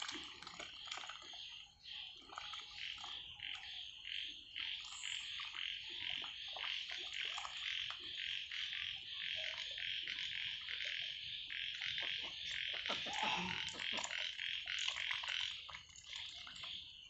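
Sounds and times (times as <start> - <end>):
ducks dabbling in water: 0.0 - 17.0
frogs calling: 0.3 - 17.0.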